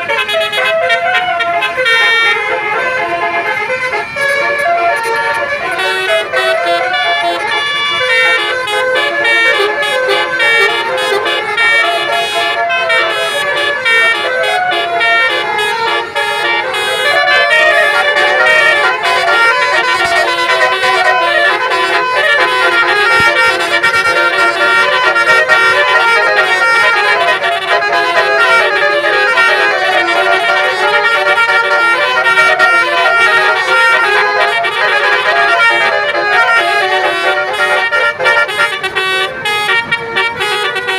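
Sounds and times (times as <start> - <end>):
bus multi-tone horn melody: 0.0 - 40.9.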